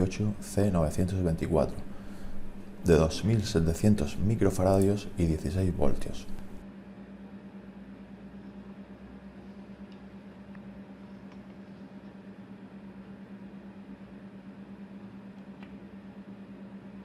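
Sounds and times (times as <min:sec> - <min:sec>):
low equipment hum: 0:00.0 - 0:17.0.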